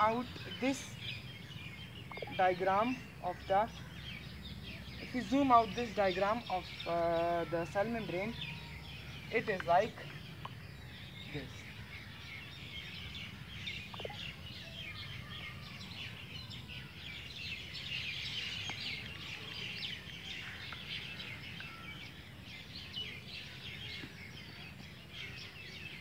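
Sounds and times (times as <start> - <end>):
birds chirping and calling: 0.0 - 26.0.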